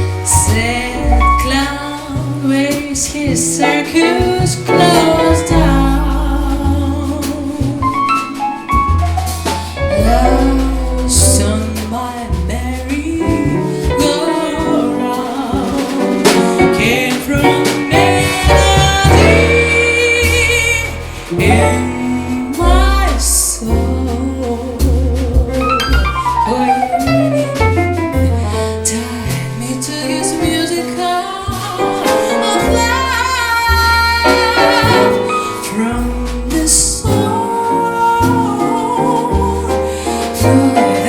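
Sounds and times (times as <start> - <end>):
woman singing: 0.0 - 8.6, 9.8 - 41.0
double bass: 0.0 - 41.0
drum kit with cymbals: 0.0 - 41.0.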